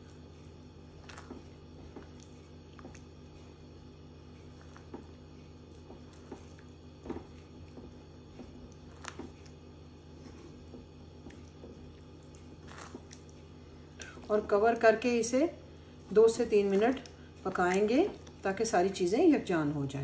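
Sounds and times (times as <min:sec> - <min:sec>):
spatula stirring thick wet food: 0:00.0 - 0:18.9
steady low hum: 0:00.0 - 0:20.0.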